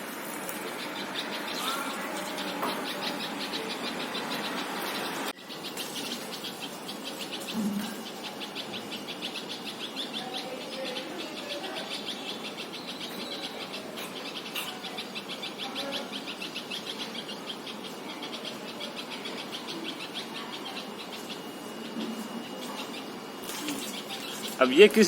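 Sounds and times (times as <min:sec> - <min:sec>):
high-pitched chirping: 0:00.4 - 0:24.7.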